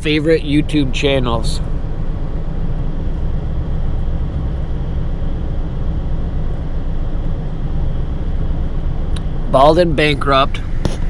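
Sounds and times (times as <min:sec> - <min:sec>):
heater fan blowing air: 0:00.0 - 0:11.0
vehicle engine idling: 0:00.0 - 0:11.0.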